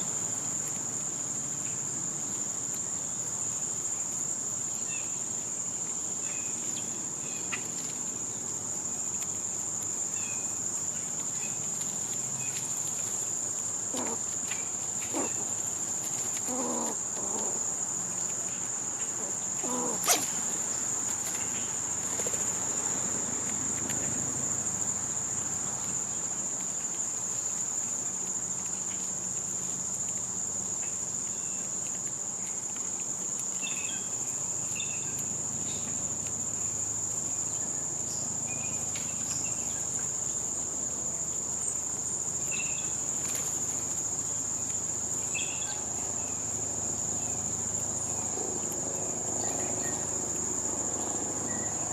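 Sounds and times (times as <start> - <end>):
insect chorus drone: 0.0 - 51.9.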